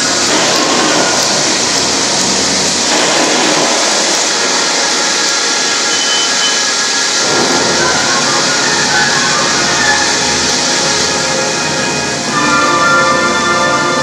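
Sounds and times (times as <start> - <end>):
loud steady rushing noise: 0.0 - 14.0.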